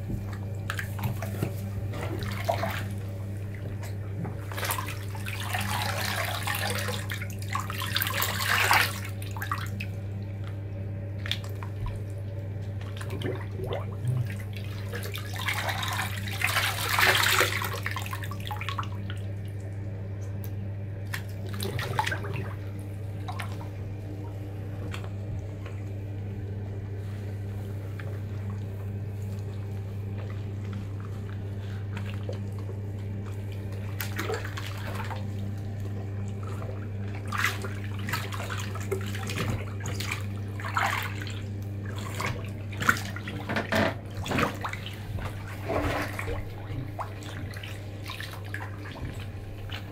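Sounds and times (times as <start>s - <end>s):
steady low hum: 0.0s - 49.9s
water sloshing and splashing in tub: 0.0s - 49.9s.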